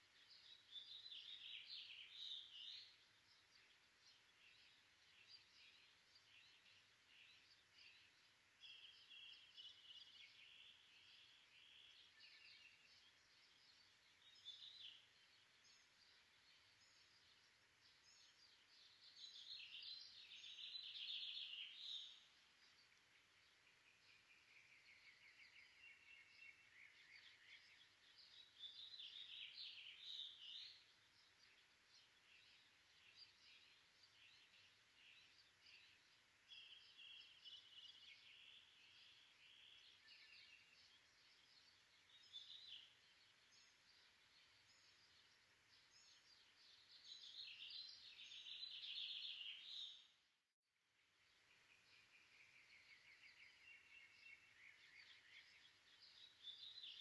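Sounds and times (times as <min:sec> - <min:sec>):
bird chirps and trills: 0:00.1 - 0:50.2.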